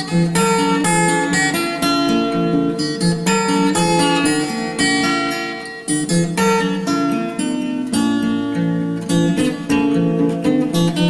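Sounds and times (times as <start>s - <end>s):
acoustic guitar tune: 0.0s - 11.0s.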